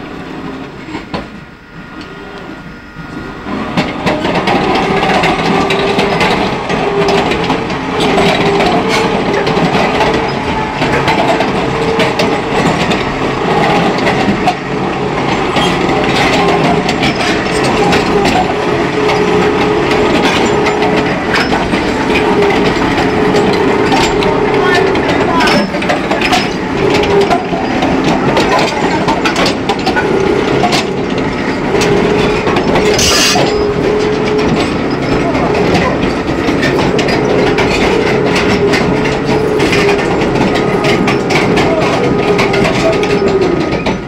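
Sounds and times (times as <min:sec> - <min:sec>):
crawler tracks grinding and clanking: 0:00.0 - 0:44.0
steady drive hum: 0:01.4 - 0:43.5.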